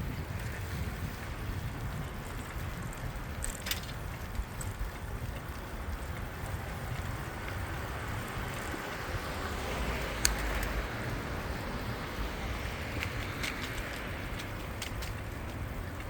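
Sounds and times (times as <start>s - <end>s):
bicycle road noise: 0.0s - 16.0s
wind rumbling on microphone: 0.0s - 16.0s.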